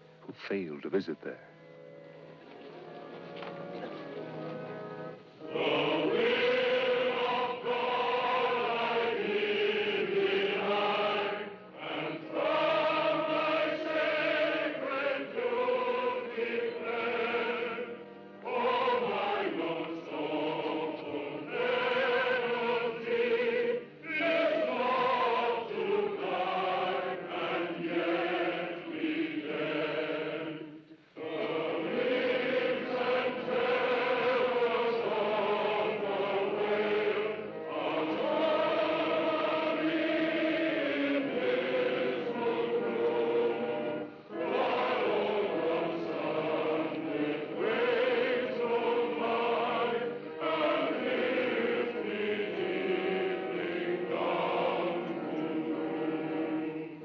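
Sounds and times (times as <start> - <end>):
group singing a slow hymn: 5.4 - 57.0.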